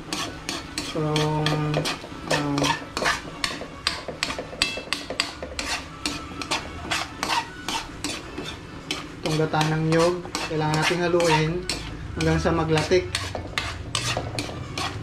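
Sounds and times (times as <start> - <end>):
utensil scraping metal wok: 0.0 - 15.0.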